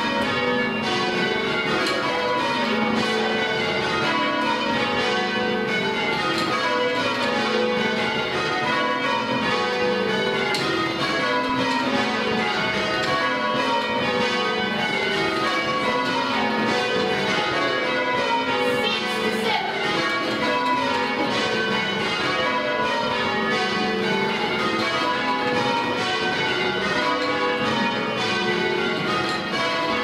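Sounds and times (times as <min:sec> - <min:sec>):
tower bells change ringing: 0:00.0 - 0:30.0.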